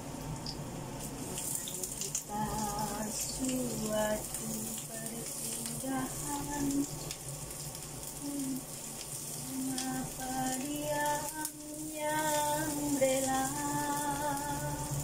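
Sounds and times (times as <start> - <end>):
garlic sizzling in hot oil: 0.4 - 15.0
woman singing slow melody: 1.6 - 7.2, 8.1 - 15.0.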